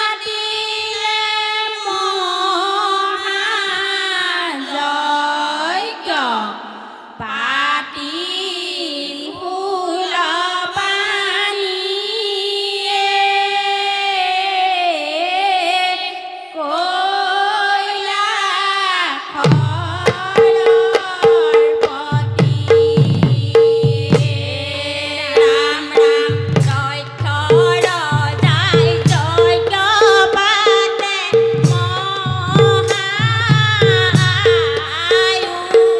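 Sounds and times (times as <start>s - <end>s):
women singing together: 0.0s - 35.9s.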